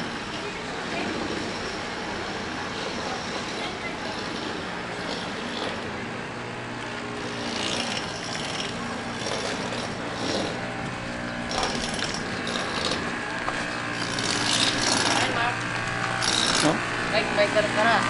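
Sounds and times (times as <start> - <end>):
motorcycle engine hum: 0.0 - 18.0.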